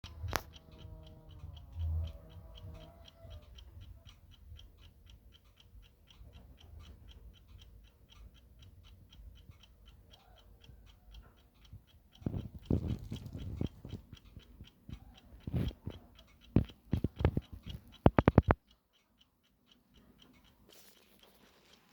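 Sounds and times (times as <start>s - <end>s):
alarm clock ticking: 0.0s - 21.9s.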